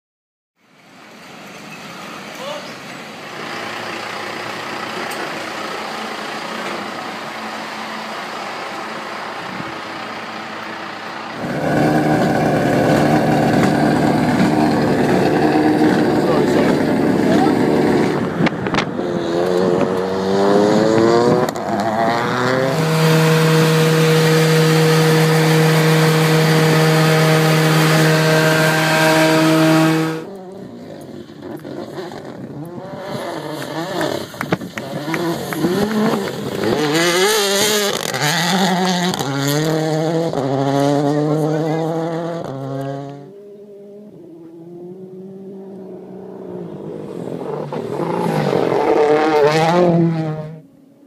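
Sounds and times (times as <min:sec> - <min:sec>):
distant engine accelerating with upshifts: 0:01.9 - 0:51.0
car engine revving: 0:03.1 - 0:50.8.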